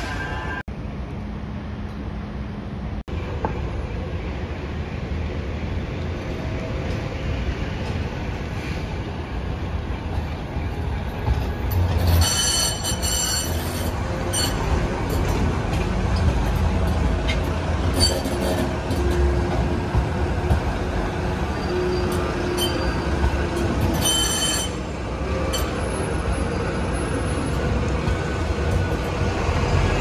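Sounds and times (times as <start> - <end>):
tram wheels squealing on rails: 0.0 - 0.6, 6.0 - 30.0
tram rumbling: 0.0 - 30.0.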